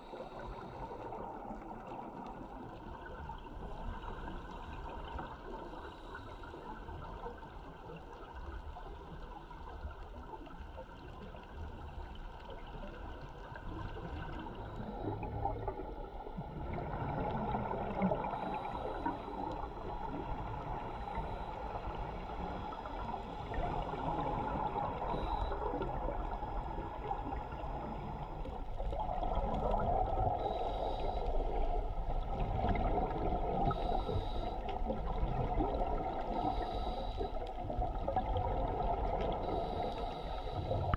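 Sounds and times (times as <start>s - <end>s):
scuba regulator bubbles gurgling: 0.0s - 40.9s.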